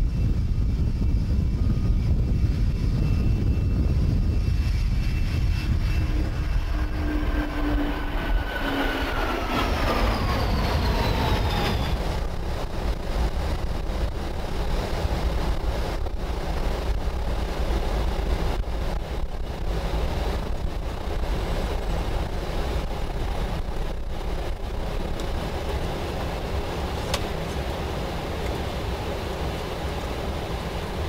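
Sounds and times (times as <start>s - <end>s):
airflow and engines rumbling: 0.0s - 31.0s.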